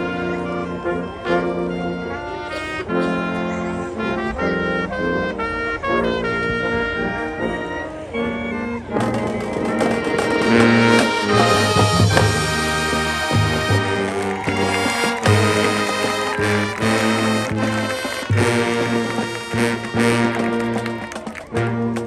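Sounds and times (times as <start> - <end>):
brass holding chords: 0.0 - 22.0
marching band playing: 0.0 - 22.0.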